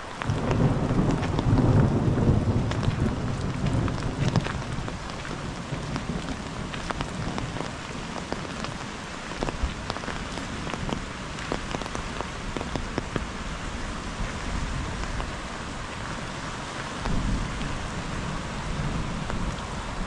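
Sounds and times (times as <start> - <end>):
raindrops ticking sharply: 0.0 - 13.9, 14.8 - 20.0
steady rain falling: 0.0 - 20.0.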